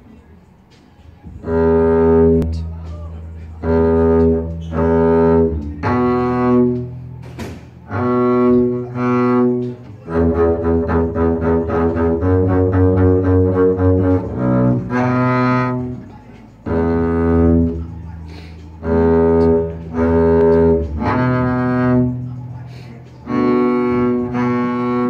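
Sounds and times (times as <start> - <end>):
bowed double bass: 1.0 - 25.0.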